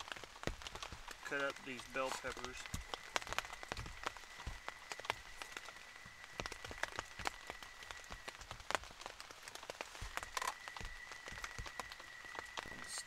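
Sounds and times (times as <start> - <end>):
rain tapping on tent fabric: 0.0 - 13.0
faint high whine: 1.1 - 13.0.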